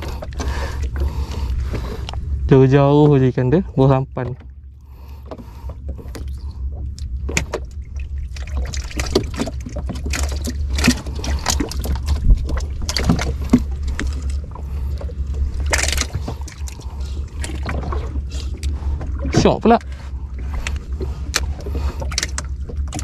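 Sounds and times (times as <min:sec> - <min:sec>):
knocks and clatters on wooden boat: 0:00.0 - 0:02.2, 0:02.9 - 0:23.0
steady low rumble: 0:00.0 - 0:23.0.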